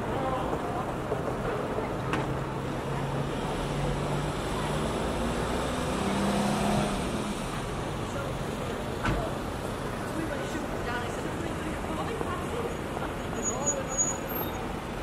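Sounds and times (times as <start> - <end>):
road traffic: 0.0 - 15.0
vehicle engine hum: 0.0 - 15.0.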